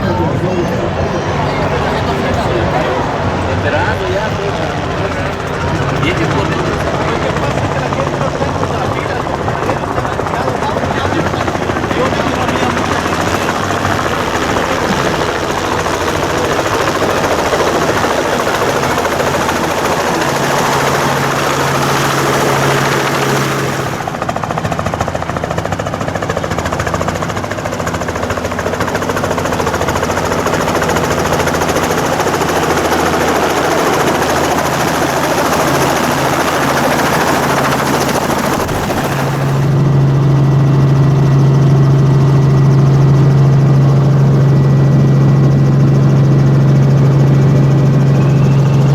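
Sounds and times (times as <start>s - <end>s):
low drone: 0.0s - 24.4s, 28.5s - 48.9s
helicopter engine and rotor noise: 0.0s - 48.9s.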